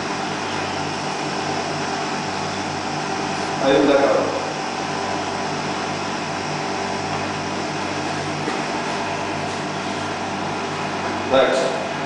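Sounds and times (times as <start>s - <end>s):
cooling appliance humming: 0.0s - 12.0s.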